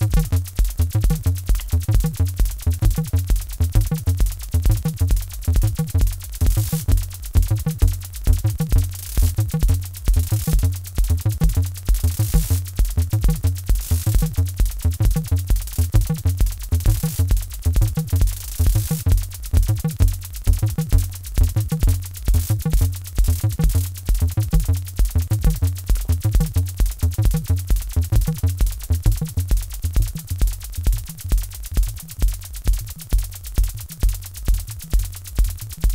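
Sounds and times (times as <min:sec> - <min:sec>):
drum machine beat: 0:00.0 - 0:35.9
synthesizer bass line: 0:00.0 - 0:35.9.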